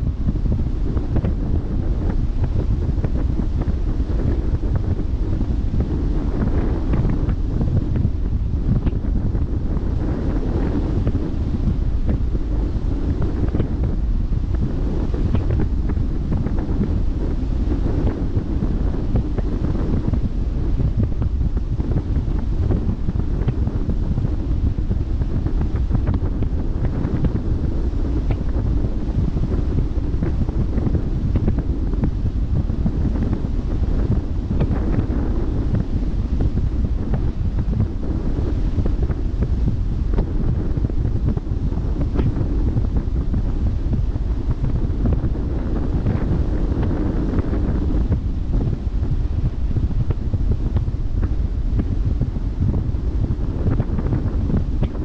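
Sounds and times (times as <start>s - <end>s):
wind on microphone: 0.0s - 55.0s.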